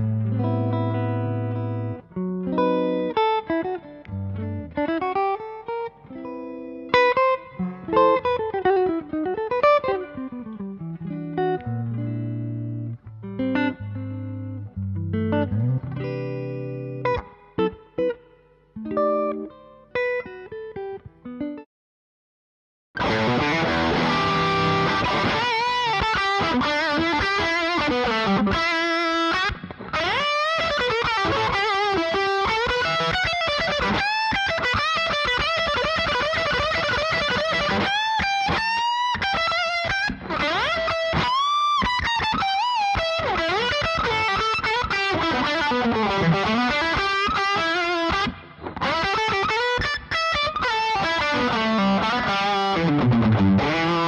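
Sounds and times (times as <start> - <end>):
electric guitar lead lines: 0.0 - 21.6, 23.0 - 54.0.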